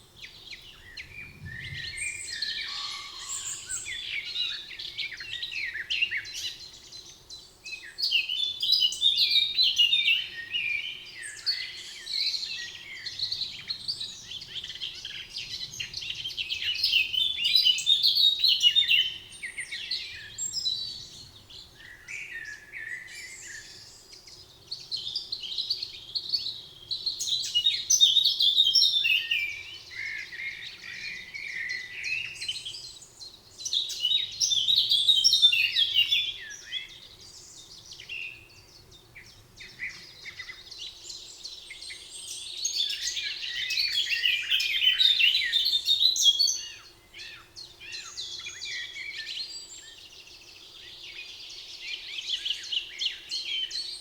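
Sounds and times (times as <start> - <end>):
songbirds chirping and warbling: 0.0 - 54.0.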